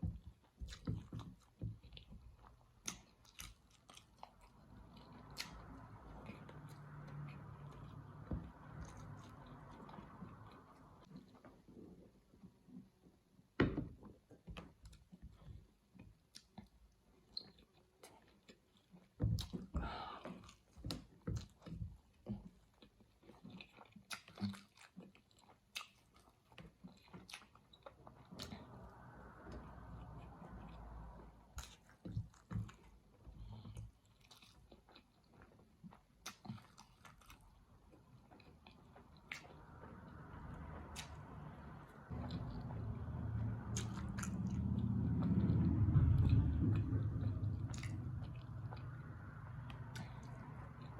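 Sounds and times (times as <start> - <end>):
person chewing food: 0.0 - 13.0, 14.3 - 50.9.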